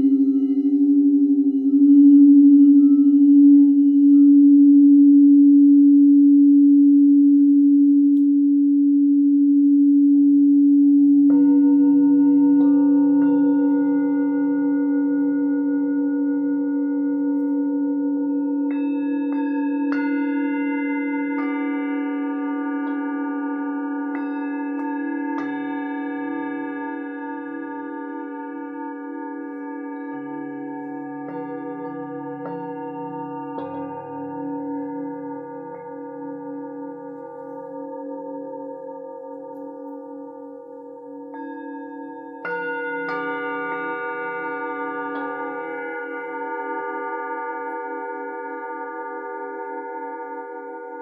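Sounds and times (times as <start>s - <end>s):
lower singing bowl tone: 0.0s - 51.0s
singing bowl ringing: 0.0s - 51.0s.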